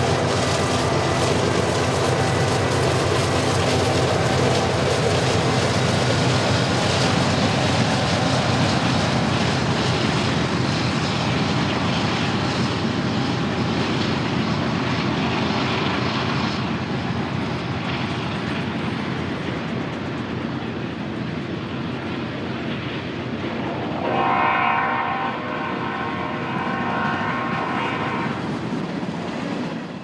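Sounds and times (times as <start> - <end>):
diesel locomotives under heavy throttle: 0.0 - 30.0.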